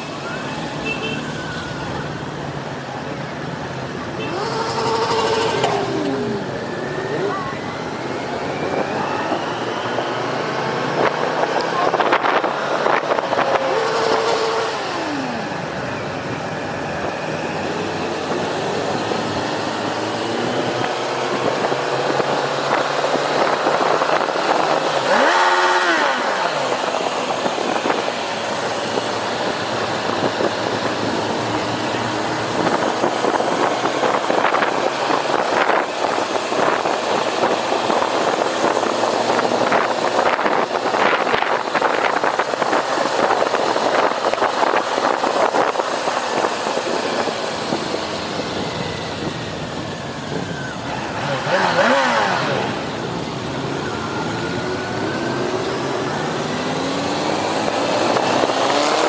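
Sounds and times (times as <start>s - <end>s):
motorcycle engines of group ride: 0.0s - 59.0s
motorcycle engine revving down: 4.2s - 59.0s.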